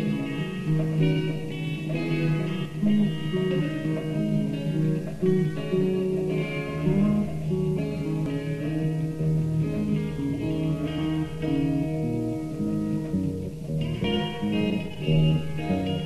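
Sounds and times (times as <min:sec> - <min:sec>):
bass guitar: 0:00.0 - 0:16.0
electric guitar playing: 0:00.0 - 0:16.0.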